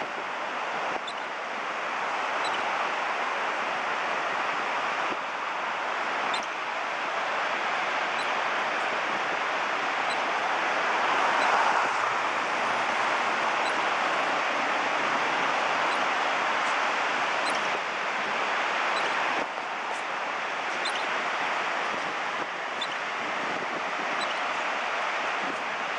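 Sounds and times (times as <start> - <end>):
ocean surf: 0.0 - 25.9.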